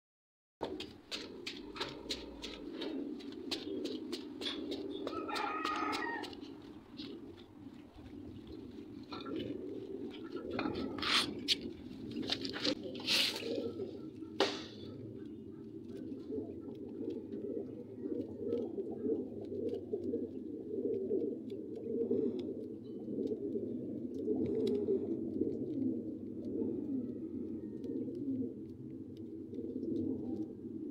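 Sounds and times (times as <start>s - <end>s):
pigeons cooing: 0.6s - 30.9s.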